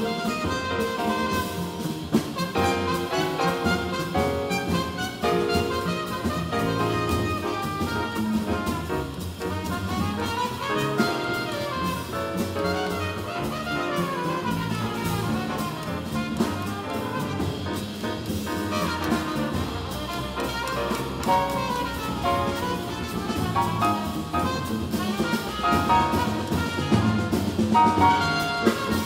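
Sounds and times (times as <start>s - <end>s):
double bass: 0.0s - 29.0s
drum kit with cymbals: 0.0s - 29.0s
jazz trumpet solo: 0.0s - 29.0s.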